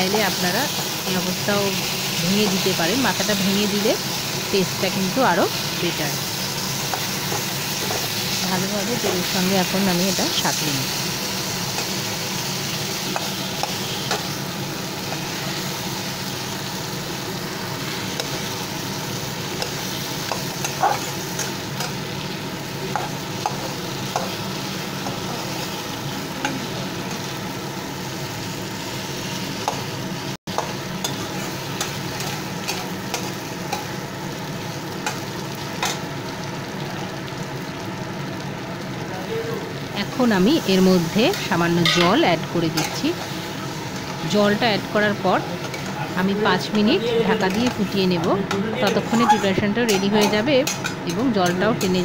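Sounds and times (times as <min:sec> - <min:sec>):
fish and vegetables sizzling in oil: 0:00.0 - 0:52.0.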